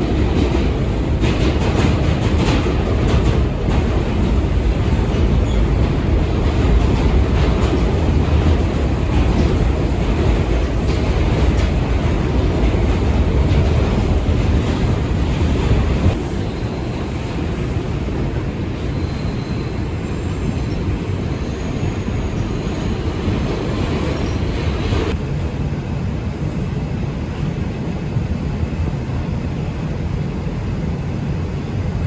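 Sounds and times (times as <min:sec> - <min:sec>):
subway train wheels rumbling on rail: 0:00.0 - 0:32.0.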